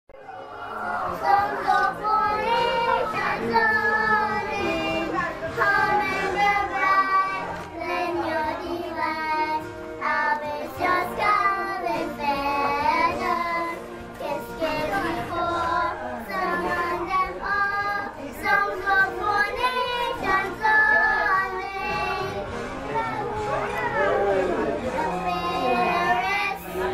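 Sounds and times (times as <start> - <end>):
girls singing together: 0.4 - 26.9.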